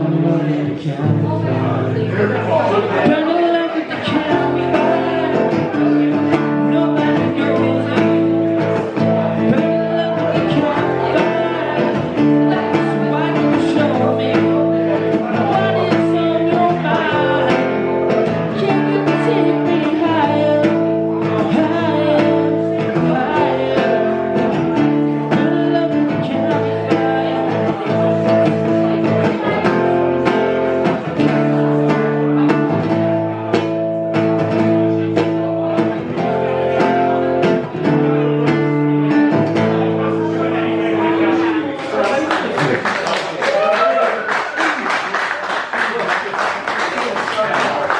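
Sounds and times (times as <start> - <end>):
acoustic guitar strumming chords: 0.0 - 42.9.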